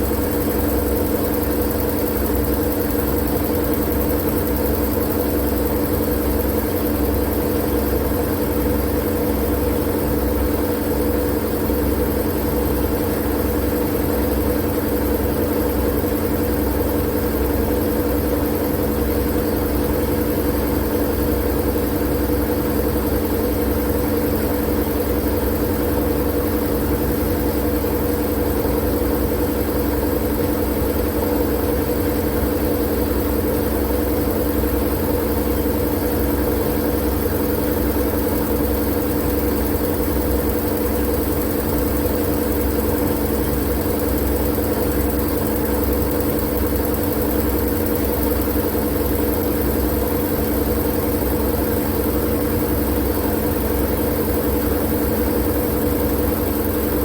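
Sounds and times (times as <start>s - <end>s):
low machine-like hum: 0.0s - 57.0s.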